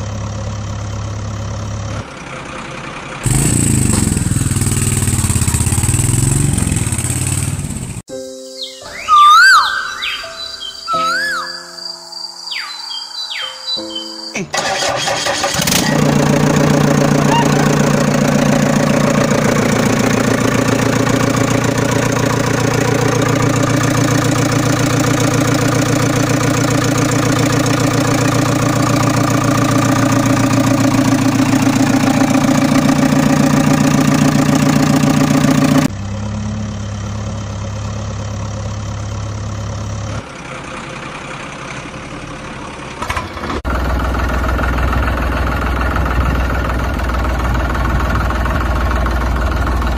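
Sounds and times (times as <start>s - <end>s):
vehicle engine idling: 0.0s - 8.1s, 12.5s - 49.9s.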